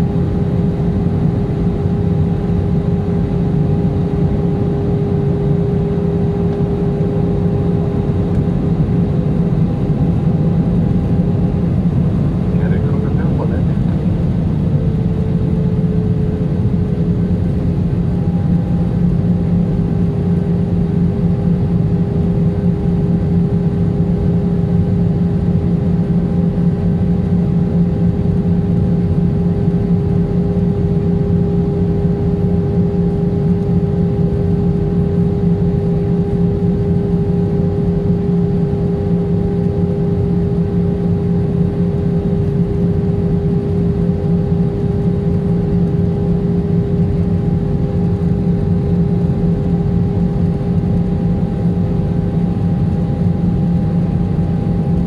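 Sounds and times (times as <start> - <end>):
jet engine and airflow noise: 0.0 - 55.0.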